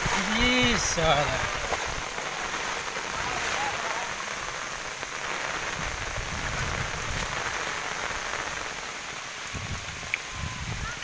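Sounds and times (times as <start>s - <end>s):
rain on paved ground: 0.0s - 11.0s.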